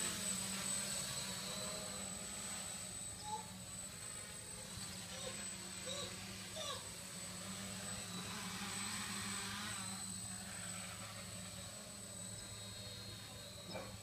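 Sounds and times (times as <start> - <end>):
drone motors humming: 0.0 - 14.0.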